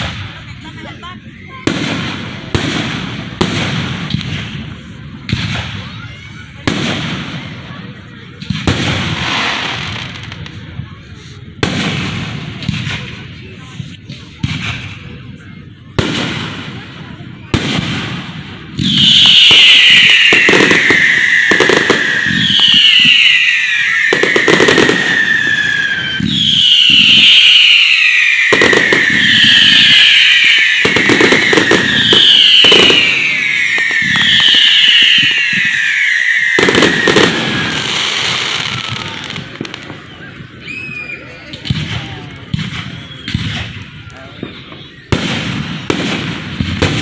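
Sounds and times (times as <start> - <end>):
fireworks bangs and crackles: 0.0 - 47.0
shrieking firework whistles: 0.0 - 47.0.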